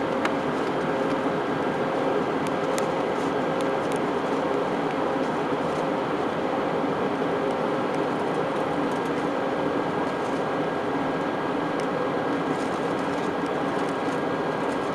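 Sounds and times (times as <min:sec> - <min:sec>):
airplane cabin engine drone: 0:00.0 - 0:14.9.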